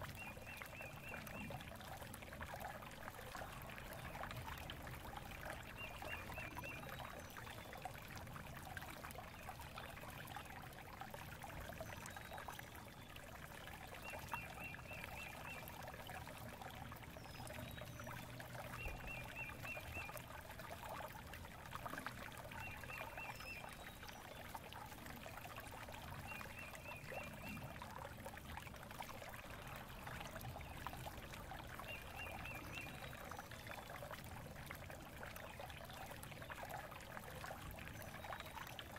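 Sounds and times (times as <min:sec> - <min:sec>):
faint flowing water: 0:00.0 - 0:38.9.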